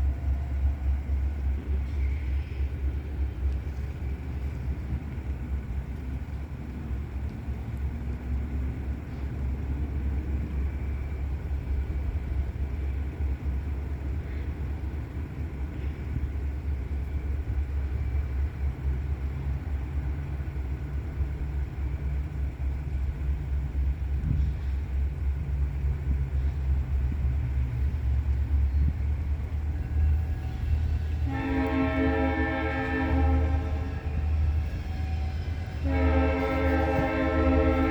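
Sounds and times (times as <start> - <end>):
freight train rumbling on rails: 0.0 - 37.9.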